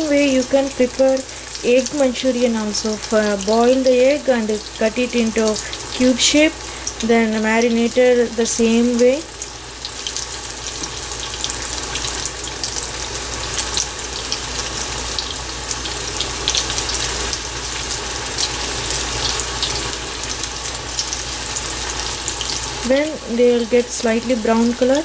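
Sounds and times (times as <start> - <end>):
food deep-frying in hot oil: 0.0 - 25.0.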